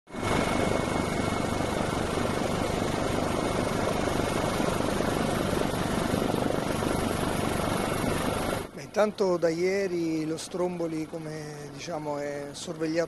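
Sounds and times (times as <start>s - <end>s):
low hum: 0.1s - 12.8s
helicopter engine and rotor: 0.1s - 13.0s.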